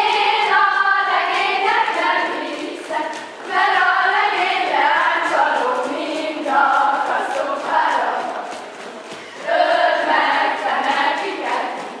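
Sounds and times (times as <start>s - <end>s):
girls singing together: 0.0s - 12.0s.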